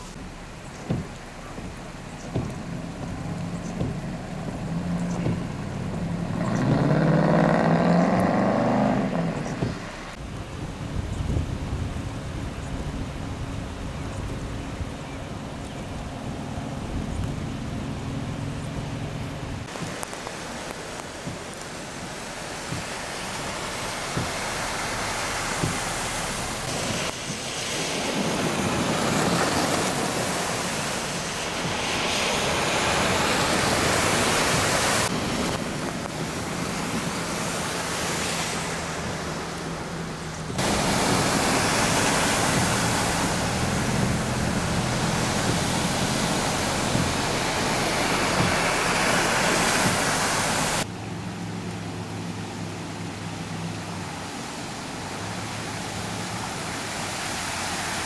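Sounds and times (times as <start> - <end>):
wind buffeting microphone: 0.0 - 50.9
floodwater rushing: 0.0 - 58.0
truck splashing through water: 0.0 - 58.0
vehicle engine hum: 0.0 - 58.0.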